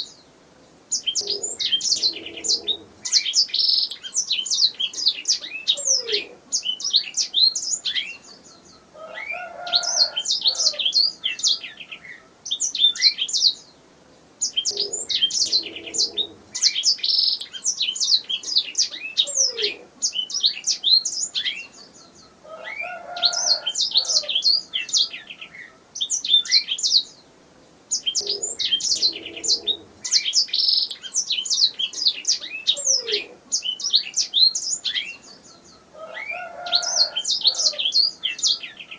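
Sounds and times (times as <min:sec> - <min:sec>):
canary singing trills: 0:00.9 - 0:13.8, 0:14.4 - 0:27.3, 0:27.9 - 0:38.9.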